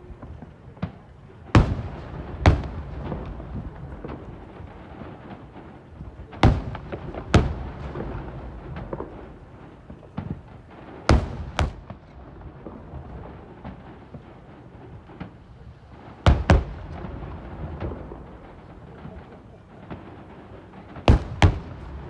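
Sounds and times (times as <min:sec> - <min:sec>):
small fireworks pops: 0:00.0 - 0:22.0.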